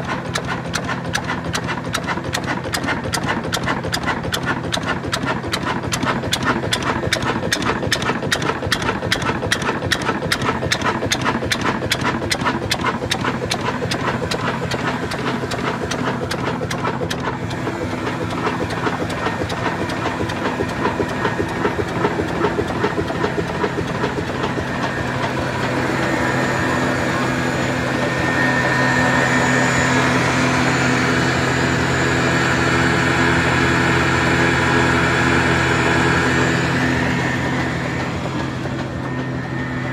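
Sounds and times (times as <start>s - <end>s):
diesel engine slow beats: 0.0s - 39.9s
machine hum: 3.8s - 39.9s.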